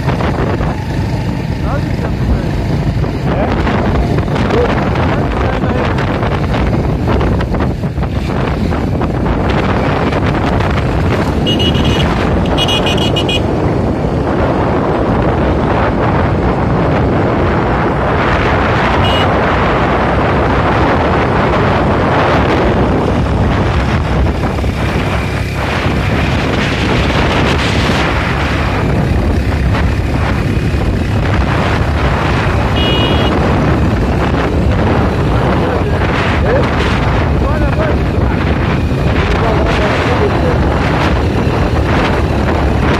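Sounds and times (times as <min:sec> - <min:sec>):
vehicle ride rumble: 0:00.0 - 0:42.9
wind buffeting microphone: 0:00.0 - 0:42.9.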